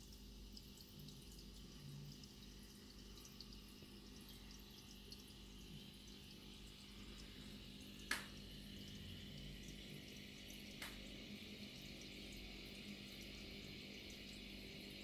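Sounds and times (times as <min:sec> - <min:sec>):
aquarium water bubbling: 0:00.0 - 0:15.0
low steady hum: 0:00.0 - 0:15.0.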